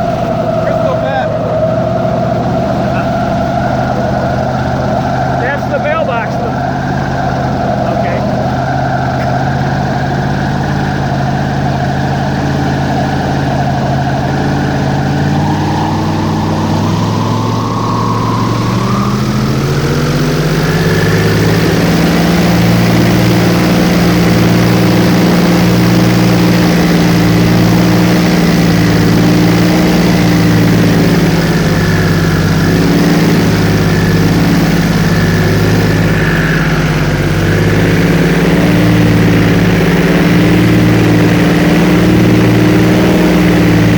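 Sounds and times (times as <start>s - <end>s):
airboat engine and propeller: 0.0s - 43.9s.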